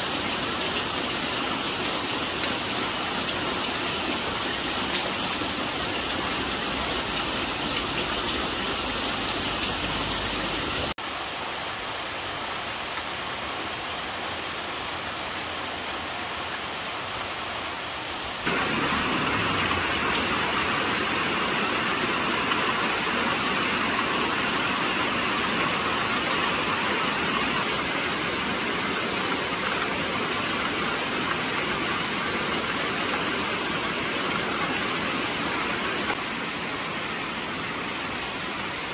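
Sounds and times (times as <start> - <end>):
rain falling on leaves: 0.0 - 38.9.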